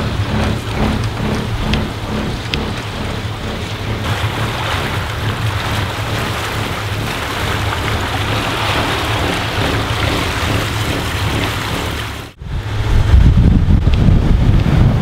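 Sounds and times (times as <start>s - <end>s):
boat engine droning: 0.0s - 15.0s
water rushing in wake: 0.0s - 15.0s.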